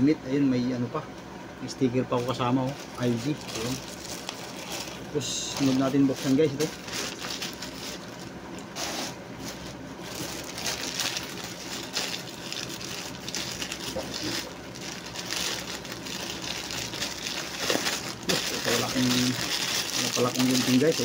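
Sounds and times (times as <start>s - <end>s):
plastic bag crinkling: 2.1s - 21.0s.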